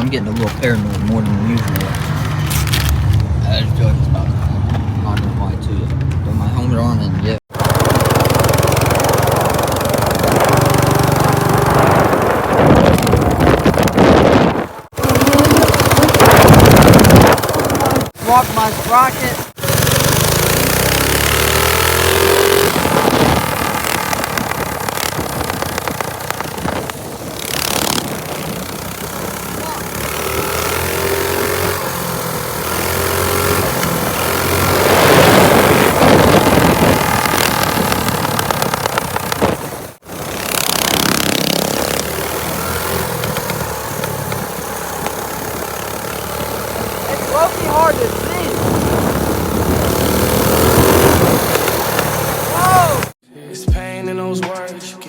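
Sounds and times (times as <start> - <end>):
small engine revving: 0.0 - 4.3, 6.4 - 53.2.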